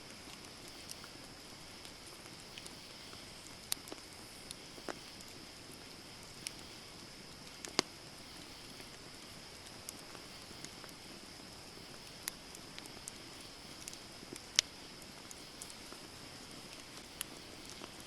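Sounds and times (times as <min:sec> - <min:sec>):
campfire crackling and popping: 0:00.0 - 0:18.0
fire hissing: 0:00.1 - 0:18.0.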